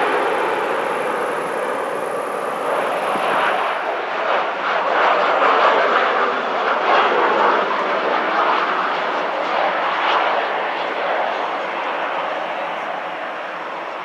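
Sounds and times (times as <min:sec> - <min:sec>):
airliner jet engines rushing: 0:00.0 - 0:14.0.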